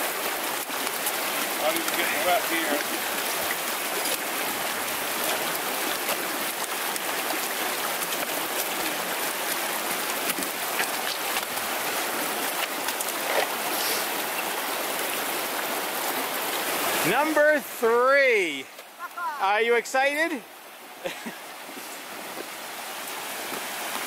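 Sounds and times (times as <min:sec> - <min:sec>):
brook rushing over rocks: 0:00.0 - 0:24.0.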